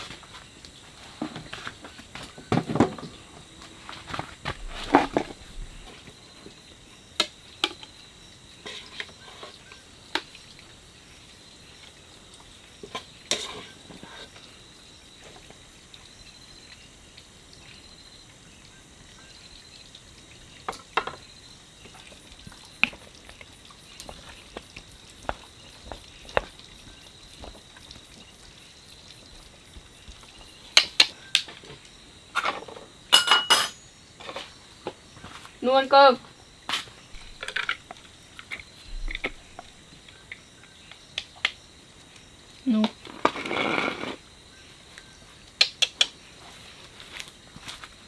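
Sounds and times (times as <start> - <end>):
faint steady hiss: 0.0 - 48.0.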